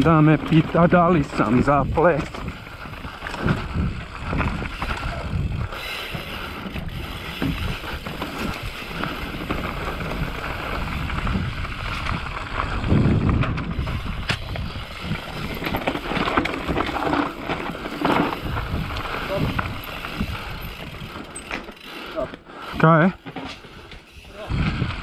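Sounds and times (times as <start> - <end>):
bike knocking and rattling: 0.0 - 25.0
bike tyres rumbling on dirt: 0.0 - 25.0.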